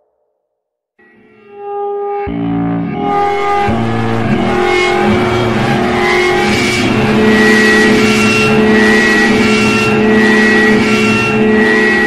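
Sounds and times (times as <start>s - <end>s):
loud distorted music: 1.0s - 12.0s.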